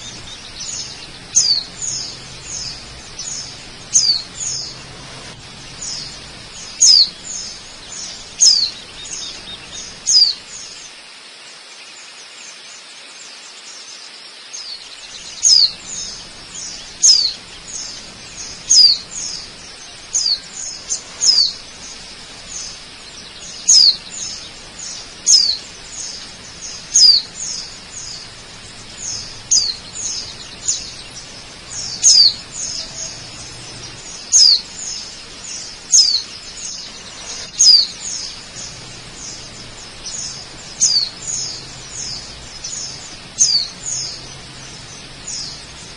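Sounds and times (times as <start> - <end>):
waterfall rushing: 0.0 - 13.6, 14.4 - 45.9
bird chirping: 0.0 - 45.9.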